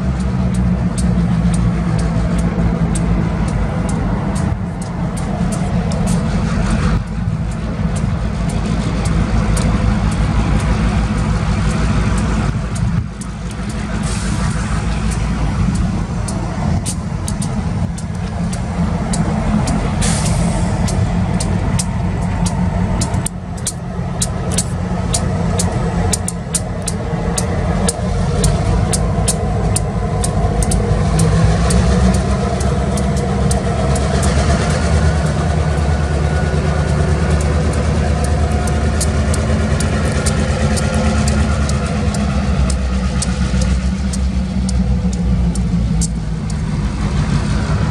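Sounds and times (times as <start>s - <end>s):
diesel locomotive engine drone: 0.0s - 47.9s
light clicks: 0.1s - 47.5s.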